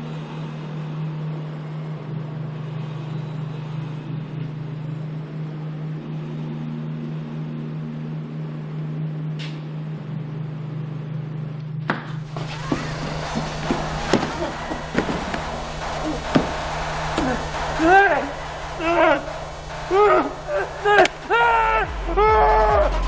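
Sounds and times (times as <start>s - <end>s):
steady low drone: 0.0s - 23.0s.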